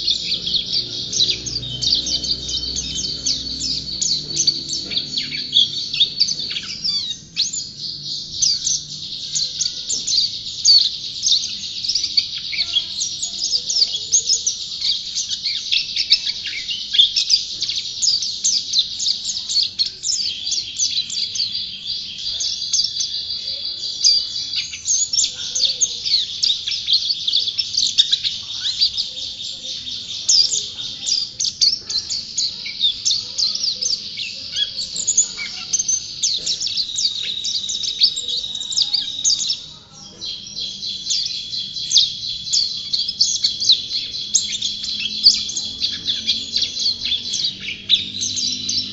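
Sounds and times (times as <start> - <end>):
songbird twittering song: 0.0 - 48.9.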